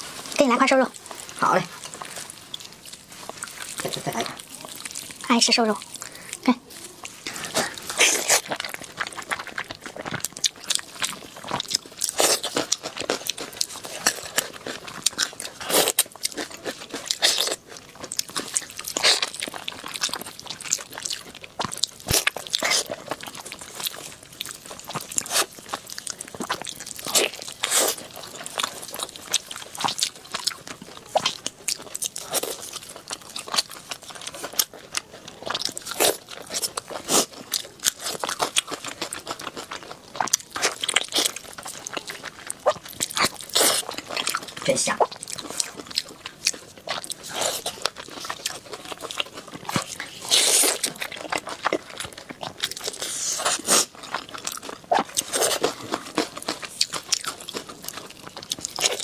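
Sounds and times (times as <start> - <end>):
person chewing meat: 0.0 - 59.0.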